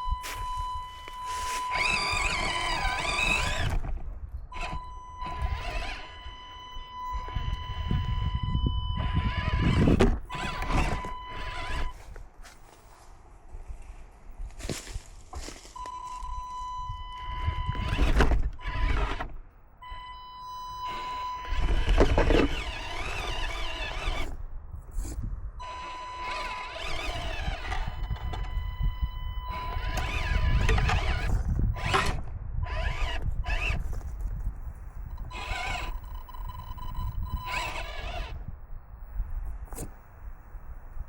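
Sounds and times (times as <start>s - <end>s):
electric motor whining: 0.0s - 12.1s, 17.1s - 39.9s.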